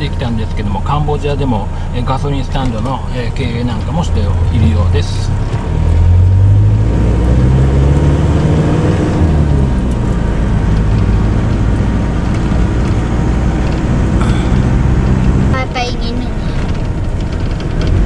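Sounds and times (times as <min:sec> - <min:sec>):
road noise: 0:00.0 - 0:18.0
truck engine running: 0:00.0 - 0:18.0.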